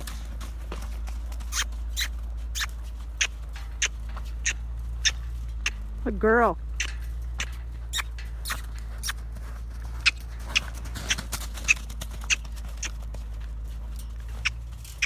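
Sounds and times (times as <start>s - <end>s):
hooves and tack clicking: 0.0s - 15.0s
steady low hum: 0.0s - 15.0s.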